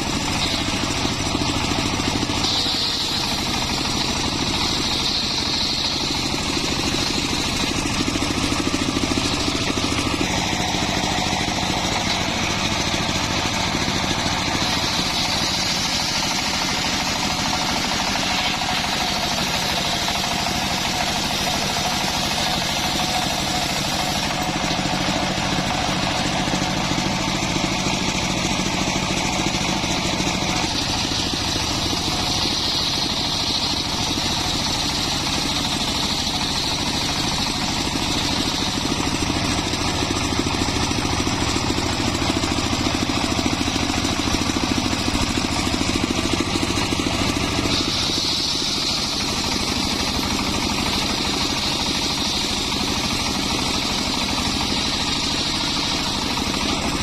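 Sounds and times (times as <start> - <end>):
circular sawmill whining: 0.0 - 57.0.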